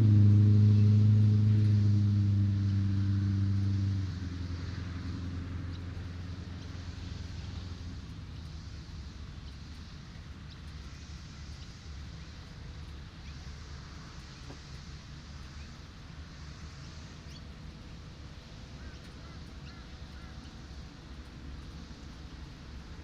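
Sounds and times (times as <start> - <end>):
low humming tone: 0.0 - 23.0
road traffic rumble: 0.0 - 23.0
surf hiss: 0.0 - 23.0.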